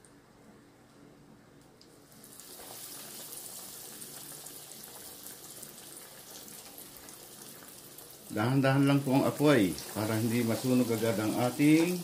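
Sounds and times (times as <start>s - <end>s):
food sizzling in hot oil: 2.1s - 12.0s.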